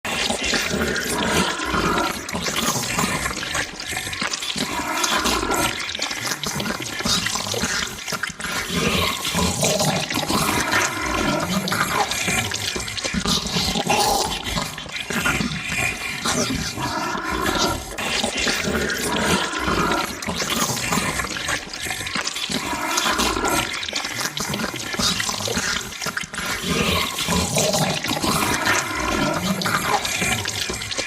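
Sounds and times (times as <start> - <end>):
wet squelching chewing and slurping: 0.1 - 31.0.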